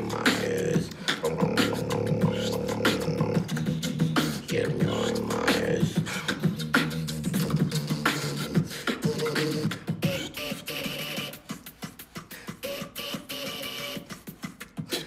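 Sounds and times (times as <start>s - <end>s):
beatboxing: 0.0s - 15.0s.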